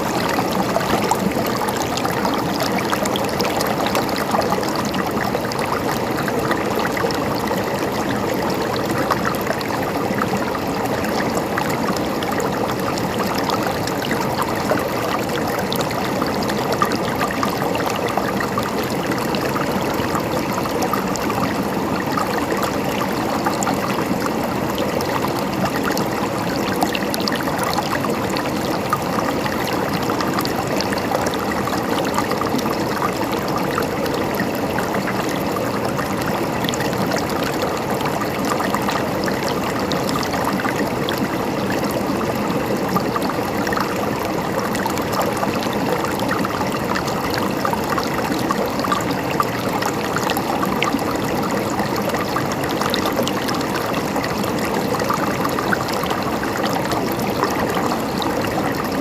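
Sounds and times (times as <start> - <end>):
water flowing and gurgling: 0.0 - 59.0.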